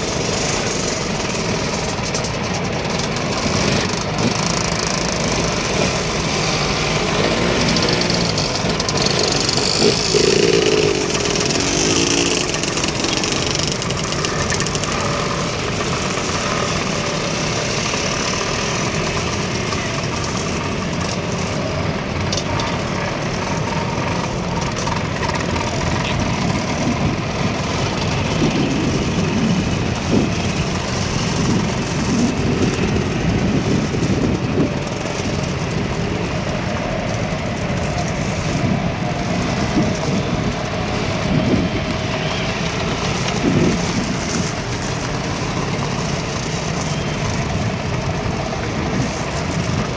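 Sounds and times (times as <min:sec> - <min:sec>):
two-stroke scooters passing by: 0:00.0 - 0:49.9.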